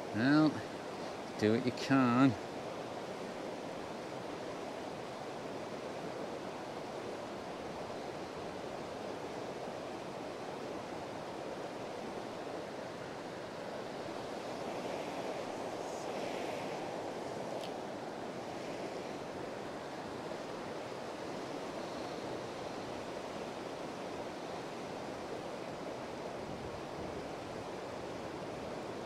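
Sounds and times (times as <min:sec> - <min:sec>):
river rushing over riffle: 0:00.0 - 0:29.0.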